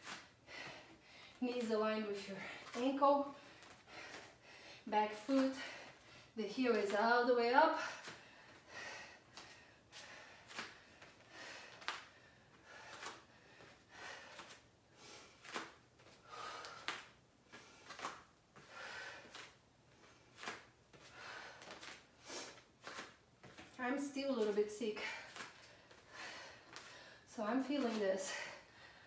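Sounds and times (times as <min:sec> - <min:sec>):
woman breathing rhythmically: 0:00.0 - 0:06.4, 0:07.6 - 0:23.8, 0:24.8 - 0:29.0.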